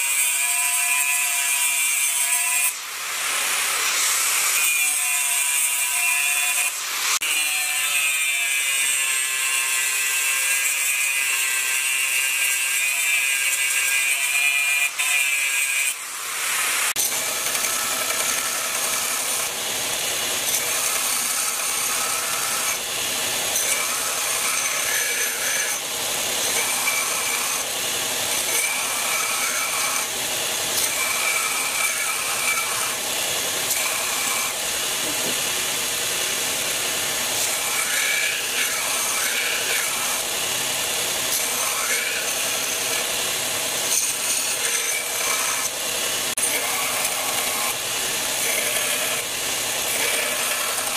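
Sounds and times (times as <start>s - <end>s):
belt grinder grinding steel: 0.0s - 50.9s.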